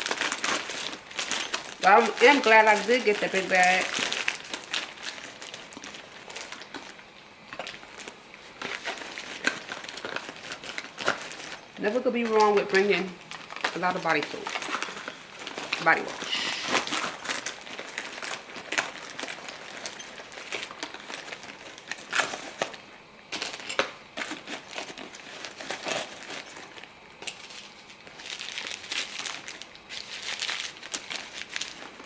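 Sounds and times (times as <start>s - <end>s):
packaging rustling and crinkling: 0.0s - 32.0s.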